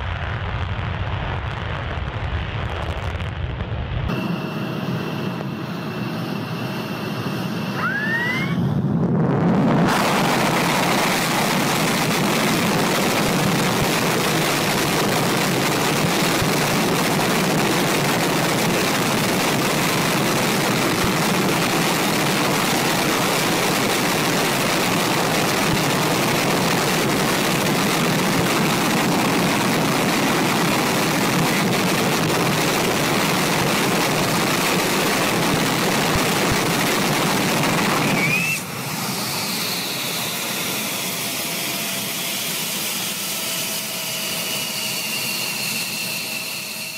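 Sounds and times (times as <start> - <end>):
jet engine with afterburner: 0.0 - 46.9
turbine whines sliding lower: 4.1 - 34.2, 35.2 - 46.9.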